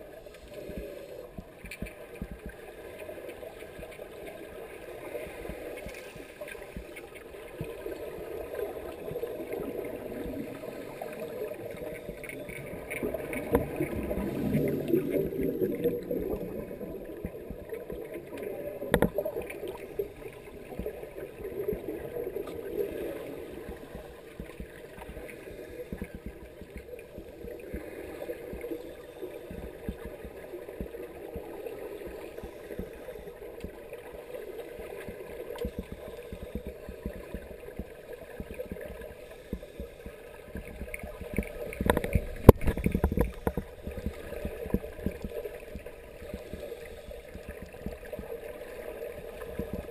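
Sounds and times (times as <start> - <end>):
underwater air bubbles: 0.0 - 49.9.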